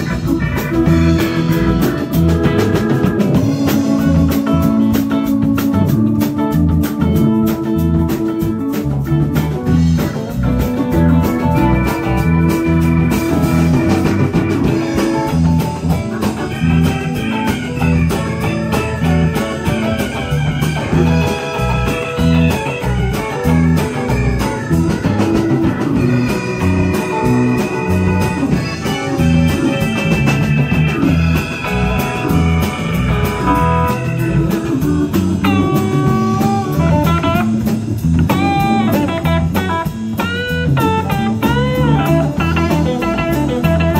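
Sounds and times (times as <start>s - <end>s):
bass: 0.0s - 43.9s
drums: 0.0s - 43.9s
electric guitar lead: 0.0s - 43.9s
keyboards: 0.0s - 43.9s.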